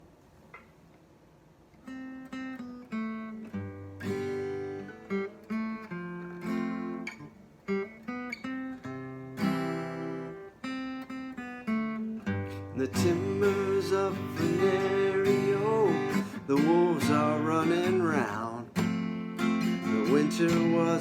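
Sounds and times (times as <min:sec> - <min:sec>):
acoustic guitar playing: 0:01.7 - 0:21.0.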